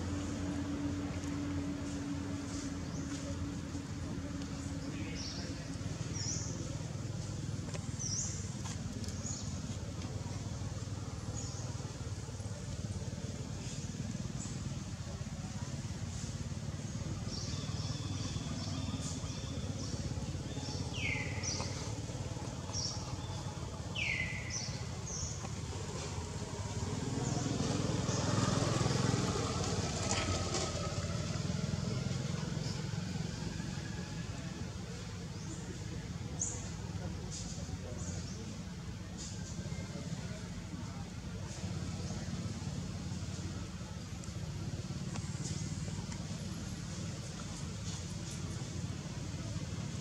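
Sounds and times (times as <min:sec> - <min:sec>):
passing vehicle engine hum: 0:00.0 - 0:50.0.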